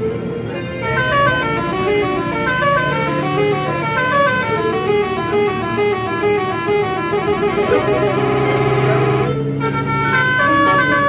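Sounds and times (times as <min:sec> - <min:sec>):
bus engine running: 0:00.0 - 0:11.0
musical air horn melody: 0:00.8 - 0:11.0.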